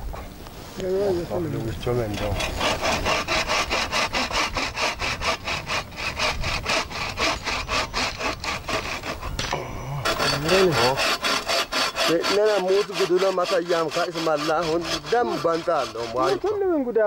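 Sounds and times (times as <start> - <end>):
bow saw cutting wood: 2.1 - 16.6.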